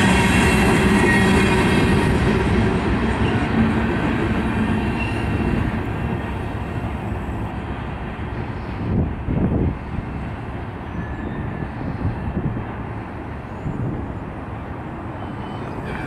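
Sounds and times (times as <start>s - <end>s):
freight train rumbling and rattling: 0.0s - 16.0s.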